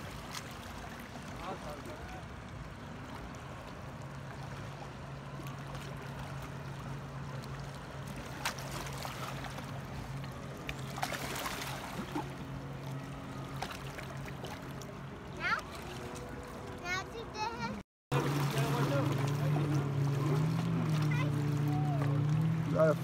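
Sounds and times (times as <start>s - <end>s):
distant motorboat engine drone: 0.0s - 23.0s
water lapping at shore: 0.0s - 23.0s.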